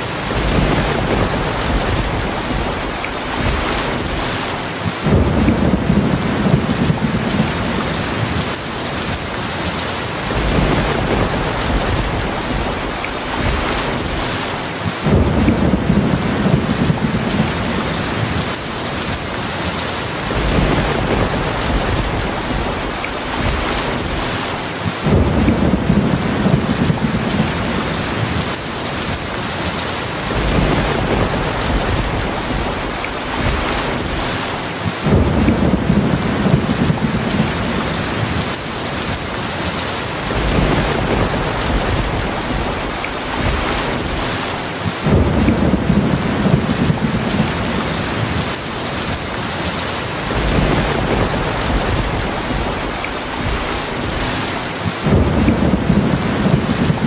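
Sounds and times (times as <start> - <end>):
thunder rolling: 0.0 - 9.4, 10.1 - 19.1, 20.1 - 29.1, 30.1 - 39.3, 40.1 - 49.4, 50.1 - 57.0
heavy rain falling: 0.0 - 57.0.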